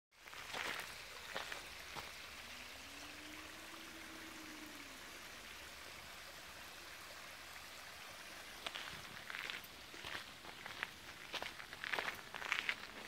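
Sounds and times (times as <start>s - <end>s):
creek running over rocks: 0.1s - 13.0s.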